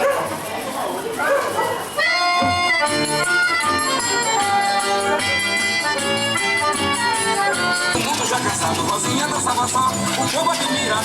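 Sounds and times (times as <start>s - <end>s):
accordion folk music: 1.8s - 11.0s.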